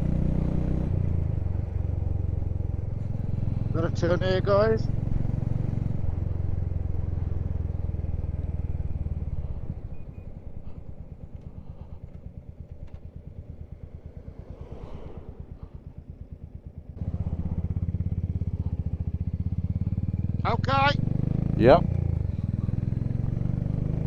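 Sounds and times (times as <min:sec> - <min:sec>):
motorcycle engine rumble: 0:00.0 - 0:24.0.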